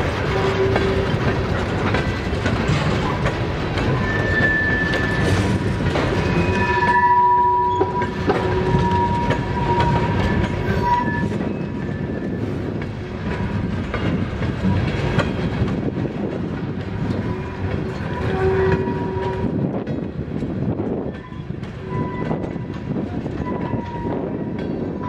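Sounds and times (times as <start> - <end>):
clickety-clack over rail joints: 0.0 - 25.0
train wheels rumbling on rail: 0.0 - 25.0.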